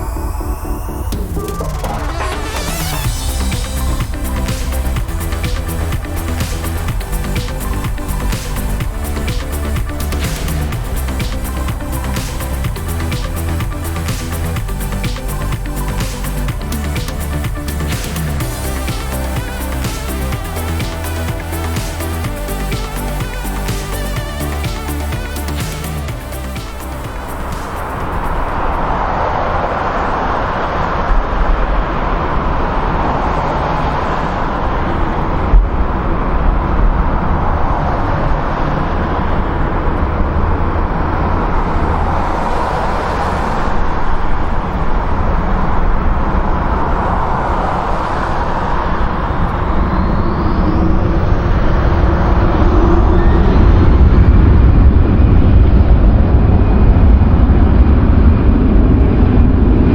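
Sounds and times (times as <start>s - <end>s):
faint rising whine: 0.0s - 59.9s
jet engine rushing rumble: 0.0s - 59.9s.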